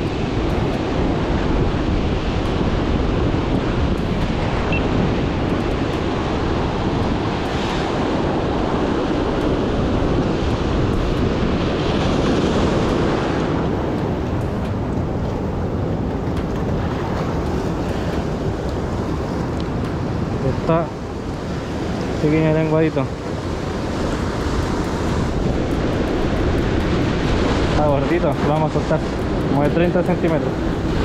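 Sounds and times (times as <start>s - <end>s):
surf washing on rocks: 0.0s - 31.0s
wind on microphone: 0.0s - 31.0s.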